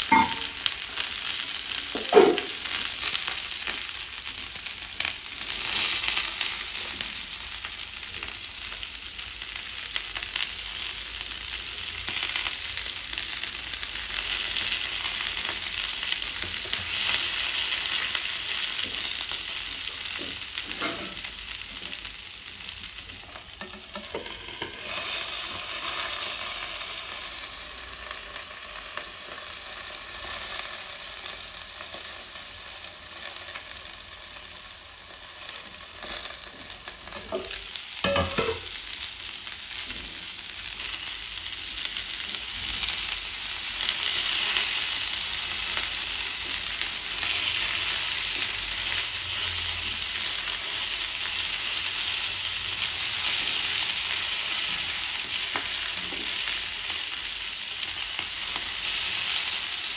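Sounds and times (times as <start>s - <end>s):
vegetables sizzling in a frying pan: 0.0s - 59.9s.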